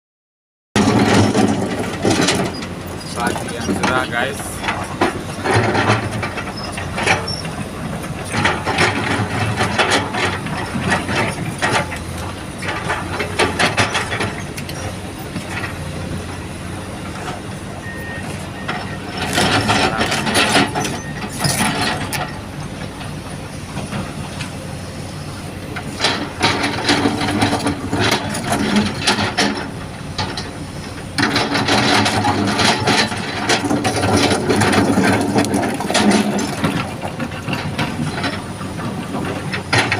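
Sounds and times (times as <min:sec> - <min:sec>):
rocks clattering against steel bucket: 0:00.8 - 0:17.5, 0:18.6 - 0:23.0, 0:25.8 - 0:39.9
diesel engine running under load: 0:00.8 - 0:39.9.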